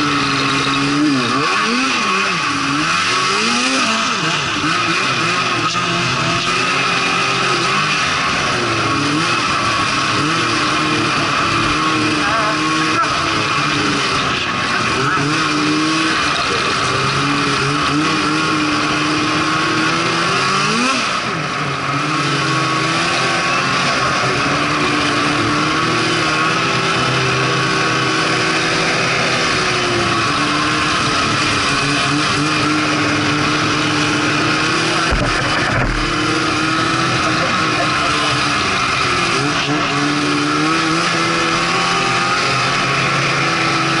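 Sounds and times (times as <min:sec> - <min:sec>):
snowmobile engine running: 0:00.0 - 0:44.0.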